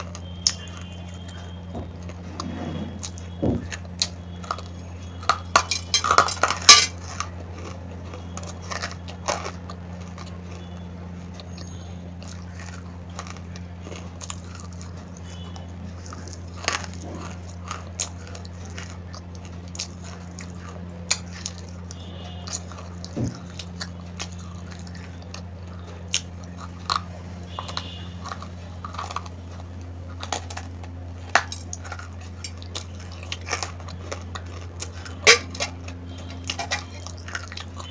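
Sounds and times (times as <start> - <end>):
clay crunching while chewed: 0.0 - 37.9
steady low hum: 0.0 - 37.9.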